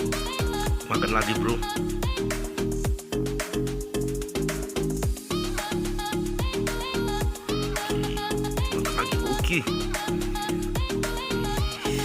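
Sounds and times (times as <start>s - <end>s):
upbeat music with bass and percussion: 0.0s - 12.0s.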